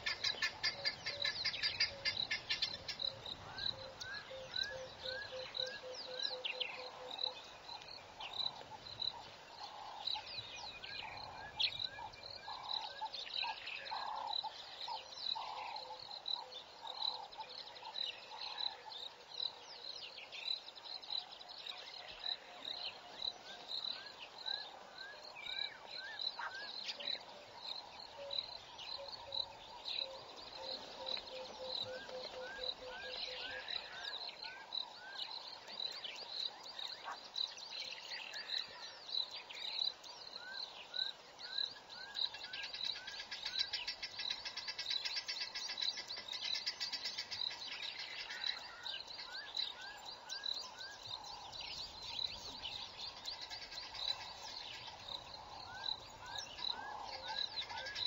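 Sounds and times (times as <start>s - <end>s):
high insect chirp: 0.0s - 58.0s
wild birds calling: 0.0s - 58.0s.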